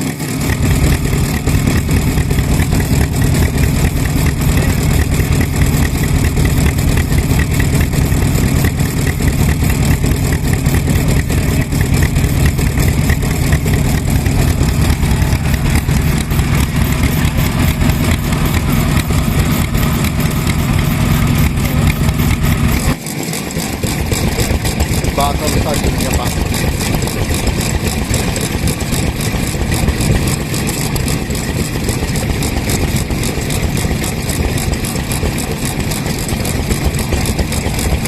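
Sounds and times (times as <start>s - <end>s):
stationary engine running: 0.0s - 38.0s.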